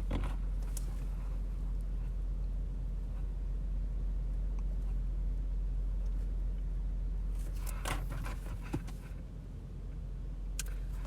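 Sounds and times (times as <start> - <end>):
car engine hum inside cabin: 0.0 - 11.0.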